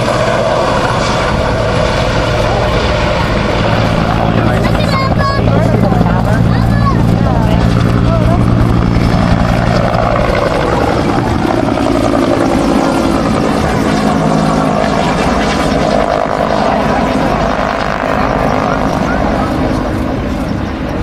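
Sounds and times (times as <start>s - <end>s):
helicopter rotor beating: 0.0s - 21.0s
turbine whine: 0.0s - 21.0s.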